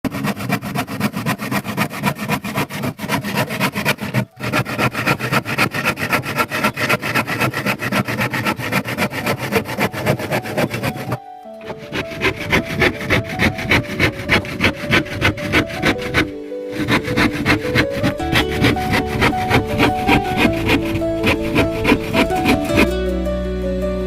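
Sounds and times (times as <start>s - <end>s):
power tool pulsing on wood: 0.4s - 22.9s.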